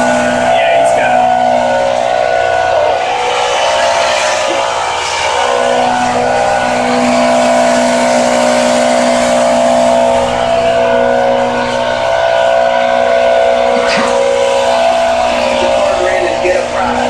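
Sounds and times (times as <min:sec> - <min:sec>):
hydraulic whine: 0:00.0 - 0:17.0
truck engine running at high revs: 0:00.0 - 0:17.0.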